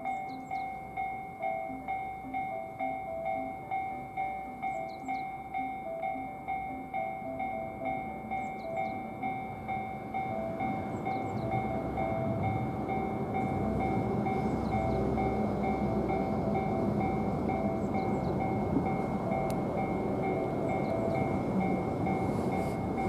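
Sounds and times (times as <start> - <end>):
electric train rumbling: 0.0 - 23.0
two-tone level crossing bell: 0.0 - 23.0.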